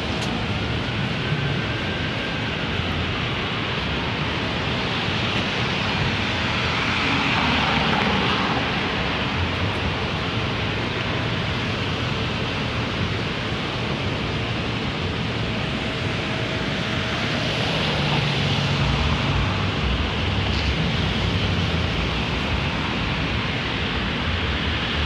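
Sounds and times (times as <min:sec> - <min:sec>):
passing cars: 0:00.0 - 0:25.0.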